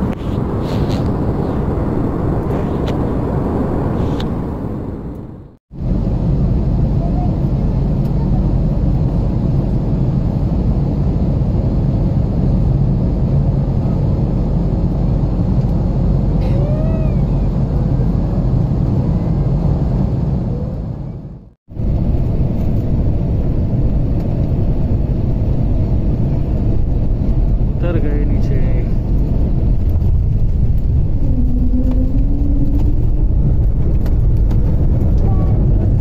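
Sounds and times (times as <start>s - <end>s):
jet engines rumbling in cabin: 0.0s - 36.0s
plane rolling along runway: 0.0s - 36.0s.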